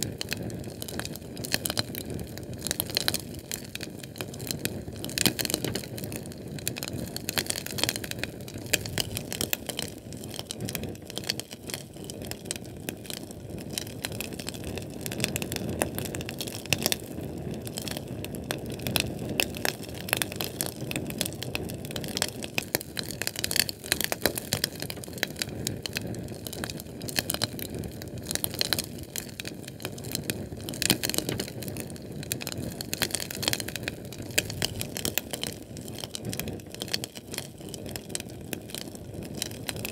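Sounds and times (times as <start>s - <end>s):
fire crackling and popping: 0.0s - 39.9s
flame rushing: 0.0s - 39.9s.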